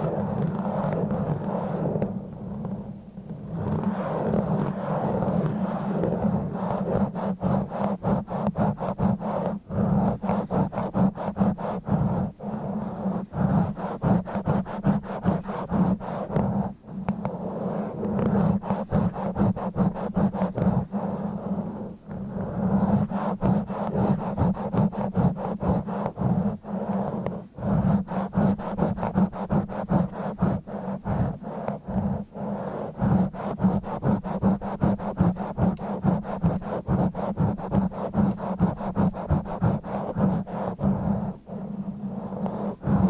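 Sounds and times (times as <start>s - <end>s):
fingers scratching on microphone: 0.0s - 43.0s.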